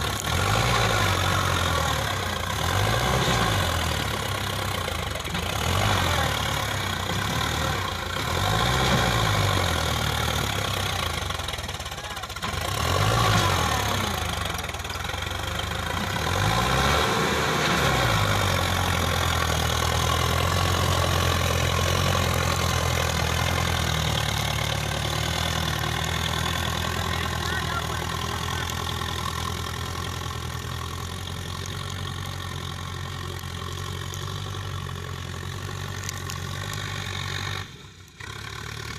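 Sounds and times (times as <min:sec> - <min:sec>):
diesel tractor engine revving: 0:00.0 - 0:38.9.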